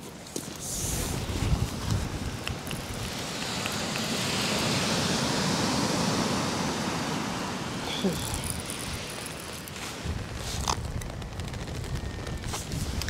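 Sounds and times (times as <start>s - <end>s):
waves breaking on shingle beach: 0.0s - 13.0s
wind rumbling on microphone: 0.0s - 13.0s.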